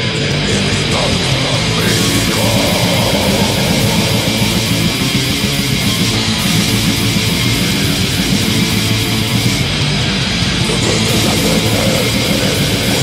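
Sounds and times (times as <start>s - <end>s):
distorted electric guitars: 0.0s - 13.0s.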